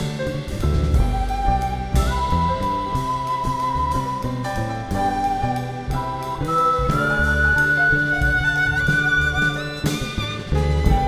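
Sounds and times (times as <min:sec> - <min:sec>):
double bass: 0:00.0 - 0:11.0
drum kit: 0:00.0 - 0:11.0
piano: 0:00.0 - 0:11.0
quena long high note: 0:00.0 - 0:11.0
violin: 0:00.0 - 0:11.0.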